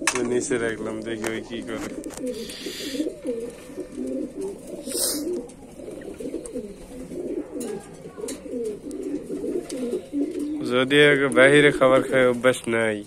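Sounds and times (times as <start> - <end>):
pigeon cooing: 0.0 - 12.4.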